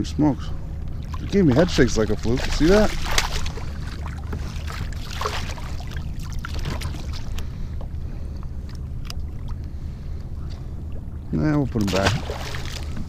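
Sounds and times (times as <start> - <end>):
faint water noise: 0.0 - 13.0.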